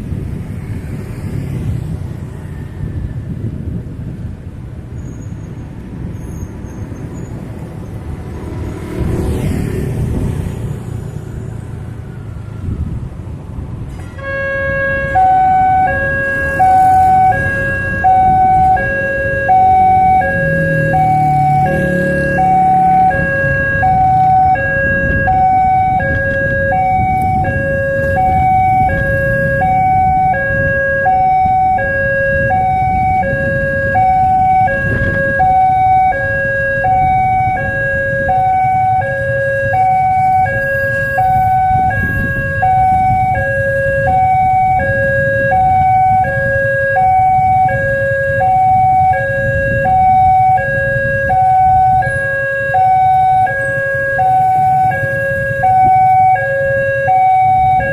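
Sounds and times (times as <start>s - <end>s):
road traffic rumble: 0.0s - 57.9s
level crossing warning siren: 8.2s - 57.9s.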